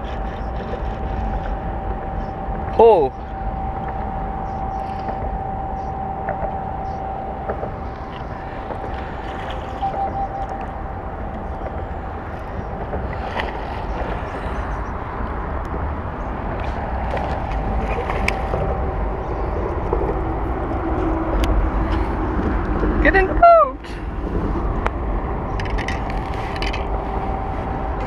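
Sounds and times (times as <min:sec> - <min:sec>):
city traffic hum: 0:00.0 - 0:28.0
faint steady whine: 0:00.0 - 0:28.0
wind rumbling on microphone: 0:00.0 - 0:28.0.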